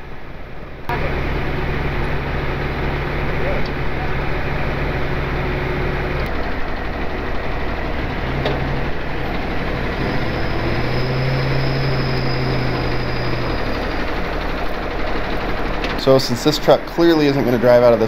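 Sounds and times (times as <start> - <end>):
truck engines running under load: 0.0 - 18.0.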